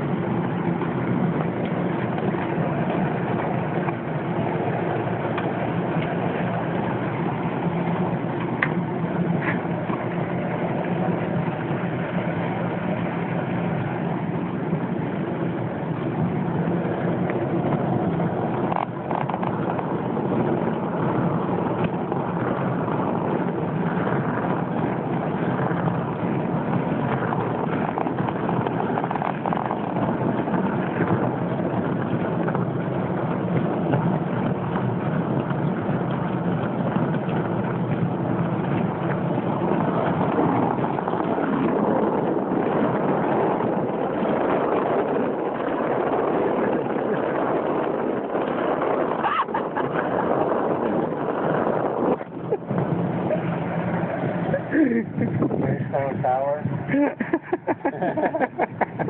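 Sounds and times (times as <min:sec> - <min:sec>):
pump motor hum: 0:00.0 - 0:59.0.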